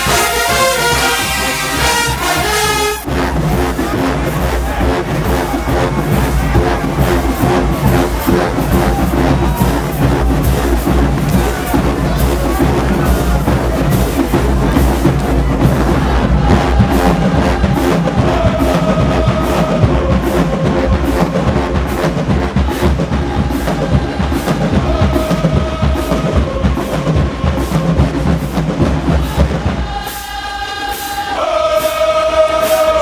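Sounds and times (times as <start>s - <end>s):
brass holding long notes: 0.0s - 28.6s
steady drum beat: 0.0s - 33.0s.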